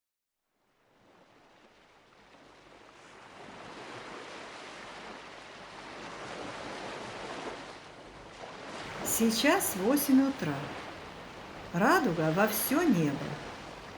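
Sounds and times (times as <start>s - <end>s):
surf washing on shore: 1.0s - 13.9s.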